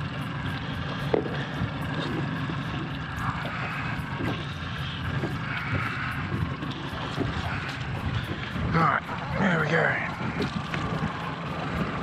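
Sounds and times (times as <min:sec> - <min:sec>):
low engine drone: 0:00.0 - 0:12.0
wind: 0:00.0 - 0:12.0.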